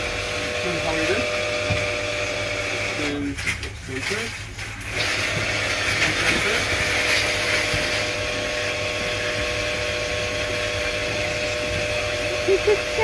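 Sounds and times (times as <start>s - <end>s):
dog-wash motor whining: 0.0s - 13.0s.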